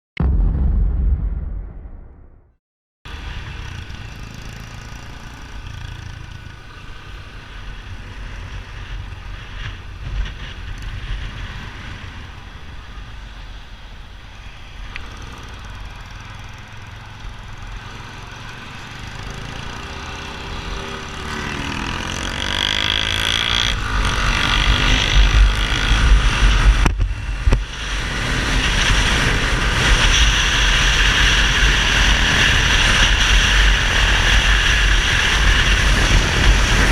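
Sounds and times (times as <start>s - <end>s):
motorcycle engine revving: 3.1s - 12.3s, 15.0s - 36.9s.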